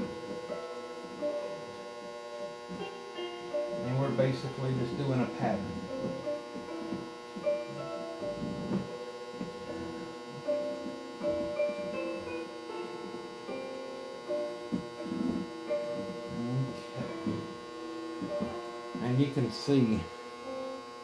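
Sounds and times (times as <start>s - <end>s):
quiet music of held notes: 0.0s - 21.0s
steady hum: 0.0s - 21.0s.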